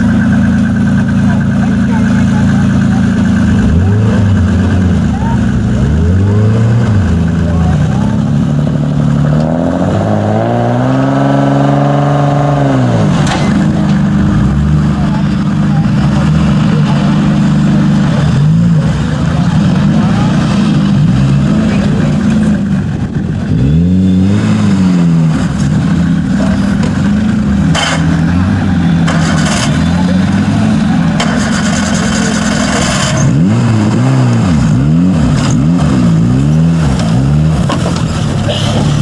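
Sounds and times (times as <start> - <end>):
off-road car engine revving: 0.0 - 39.0.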